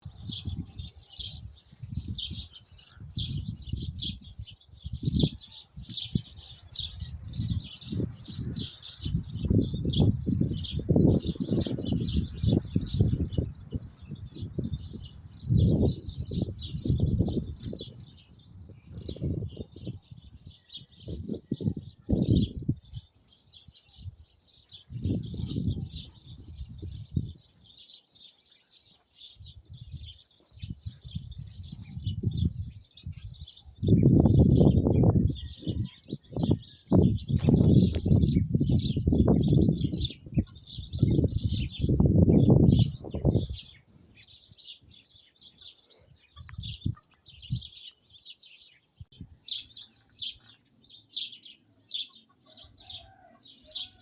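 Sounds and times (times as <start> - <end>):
wind rumbling on microphone: 0.0 - 28.2, 29.2 - 48.4, 49.0 - 50.3
flock of small birds chirping: 0.0 - 54.0.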